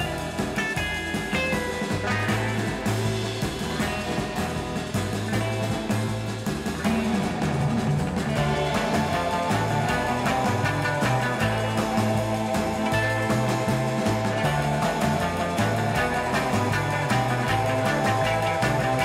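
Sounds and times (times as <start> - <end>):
rock music with guitar: 0.0 - 19.0.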